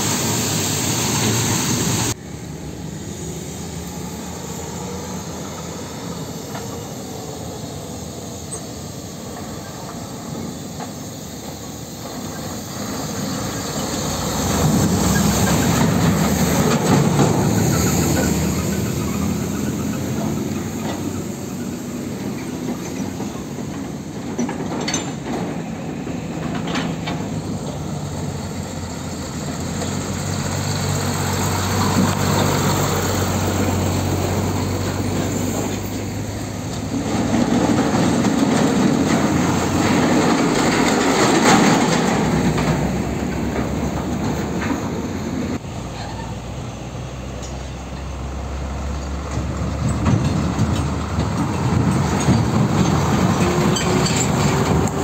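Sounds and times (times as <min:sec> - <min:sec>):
diesel truck engines running low: 0:00.0 - 0:55.0
trailers rattling over rail tracks: 0:00.0 - 0:55.0.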